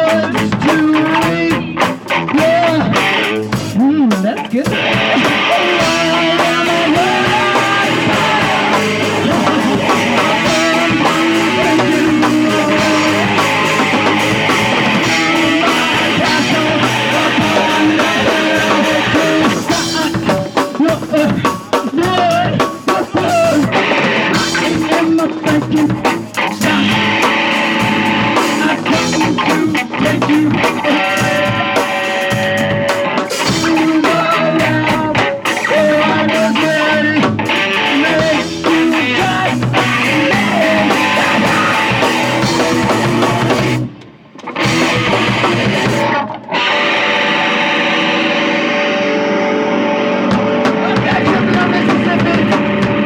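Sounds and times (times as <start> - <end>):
drum kit: 0.0 - 46.5, 49.9 - 53.0
distorted electric guitar: 0.0 - 53.0.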